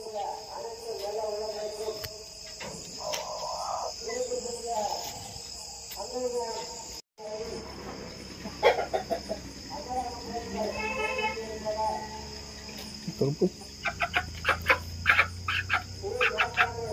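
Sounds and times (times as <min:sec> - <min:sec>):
low voices: 0:00.0 - 0:13.7, 0:15.9 - 0:16.9
crickets chirping: 0:00.0 - 0:16.9.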